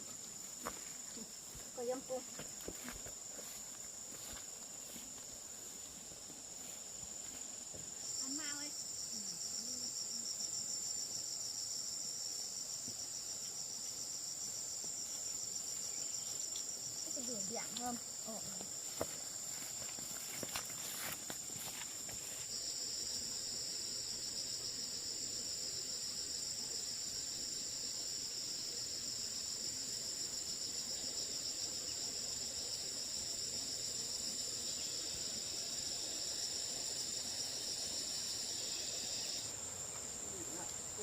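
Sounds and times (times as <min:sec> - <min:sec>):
insects trilling high-pitched: 0:00.0 - 0:41.0
lower insect trill: 0:00.0 - 0:41.0.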